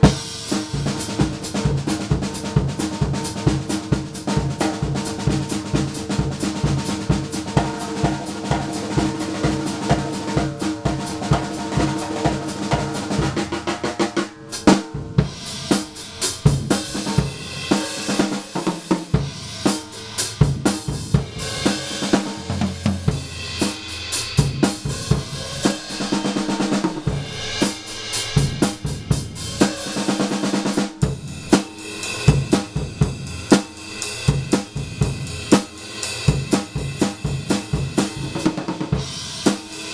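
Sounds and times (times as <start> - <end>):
cymbals and hi-hat ringing: 0.0 - 39.9
drums playing: 0.0 - 39.9.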